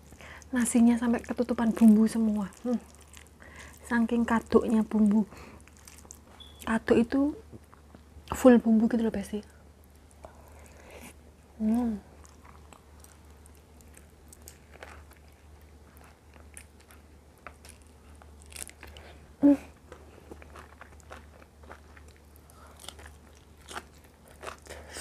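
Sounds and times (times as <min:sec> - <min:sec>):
person chewing crunchy food: 0:00.0 - 0:06.6, 0:09.9 - 0:25.0.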